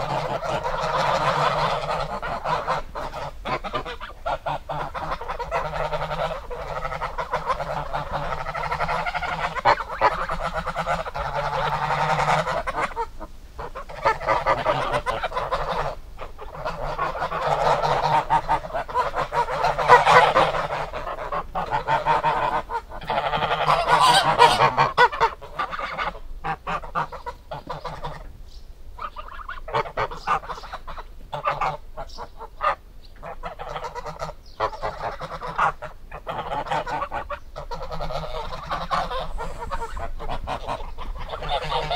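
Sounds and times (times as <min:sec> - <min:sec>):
geese honking: 0:00.0 - 0:28.4, 0:29.0 - 0:41.9.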